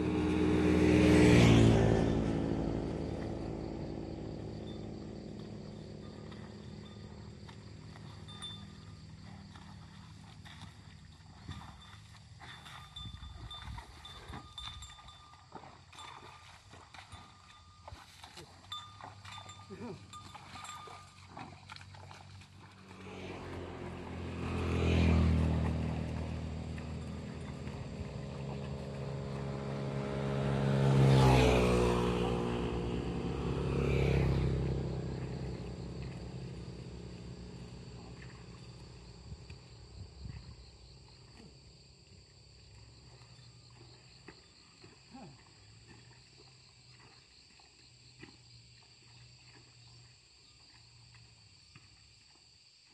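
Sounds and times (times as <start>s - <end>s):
motor vehicles passing: 0.0s - 51.4s.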